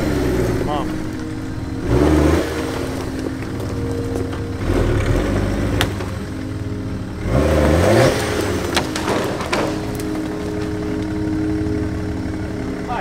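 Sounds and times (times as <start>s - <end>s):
tyres knocking over stones: 0.0s - 12.2s
off-road vehicle engine running: 0.0s - 13.0s.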